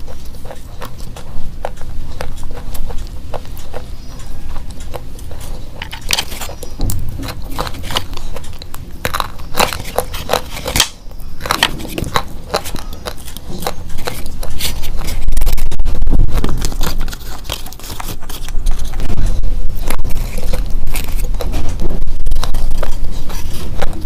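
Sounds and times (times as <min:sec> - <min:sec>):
pencils crunching when chewed: 0:00.0 - 0:24.0.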